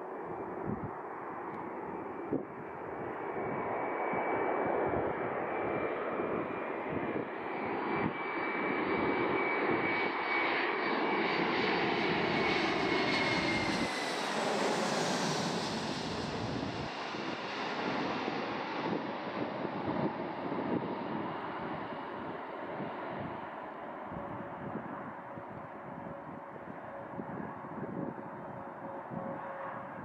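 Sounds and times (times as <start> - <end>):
high jet engine whine: 0.0 - 30.0
jet airliner roar passing overhead: 0.0 - 30.0.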